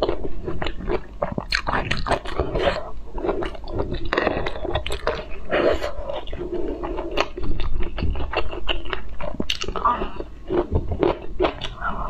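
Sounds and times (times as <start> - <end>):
chewing with wet smacks: 0.0 - 12.0.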